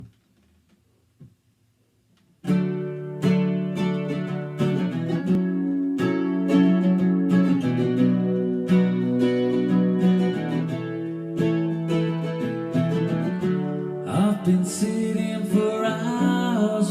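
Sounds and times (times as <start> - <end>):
acoustic guitar strumming: 2.4 - 16.9.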